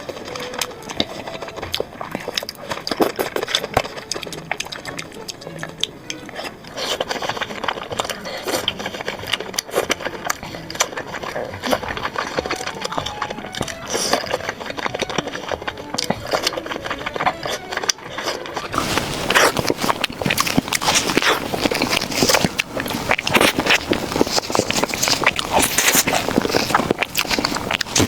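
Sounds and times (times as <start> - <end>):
person chewing: 0.0 - 28.0
wet mouth clicks and smacks: 0.0 - 28.0.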